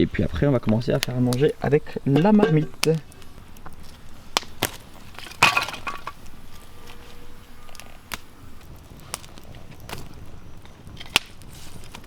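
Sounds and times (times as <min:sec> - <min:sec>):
firewood cracking and snapping: 0:00.0 - 0:12.0.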